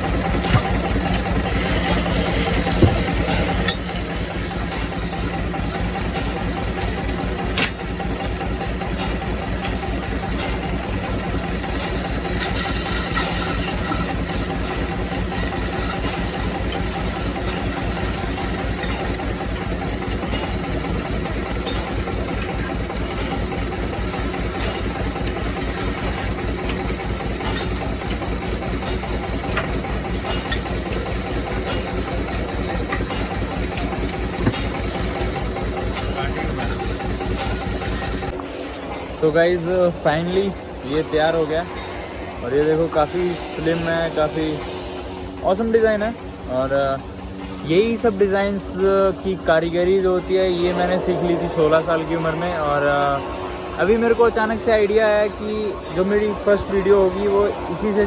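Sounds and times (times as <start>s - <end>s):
wood lathe running: 0.0s - 58.0s.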